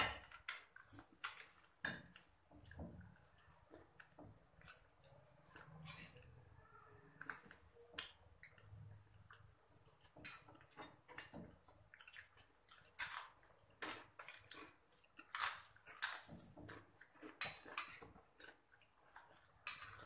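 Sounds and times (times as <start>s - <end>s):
people chewing and crunching food: 0.0s - 20.0s.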